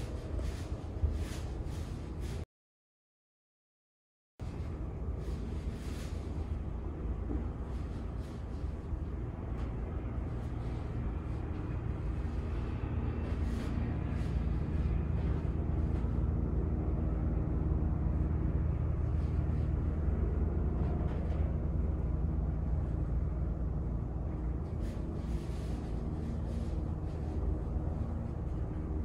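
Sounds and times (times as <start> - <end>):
helicopter drone: 4.6 - 29.0.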